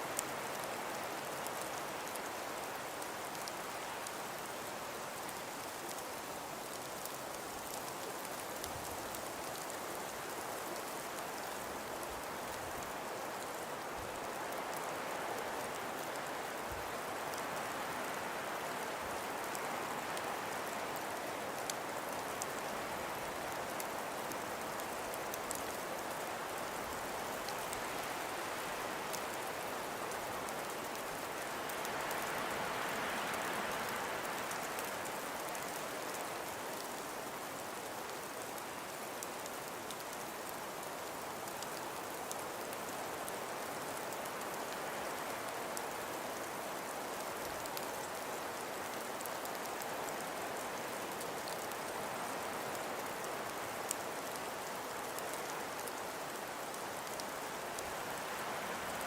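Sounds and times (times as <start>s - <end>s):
wind and falling snow hiss: 0.0s - 59.0s.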